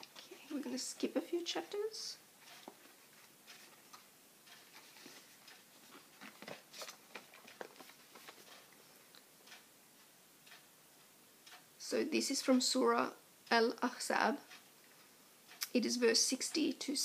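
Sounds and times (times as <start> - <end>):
soft ticks: 0.0 - 17.0.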